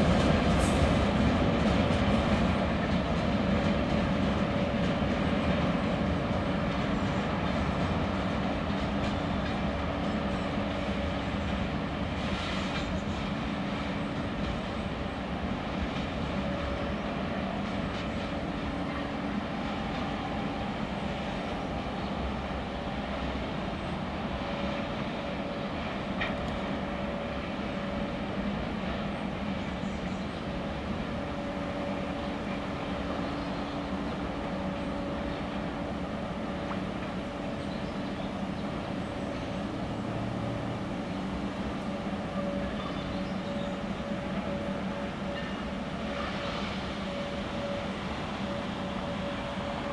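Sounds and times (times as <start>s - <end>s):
diesel locomotive drone: 0.0s - 49.9s
train wheels rumbling on rails: 0.0s - 49.9s.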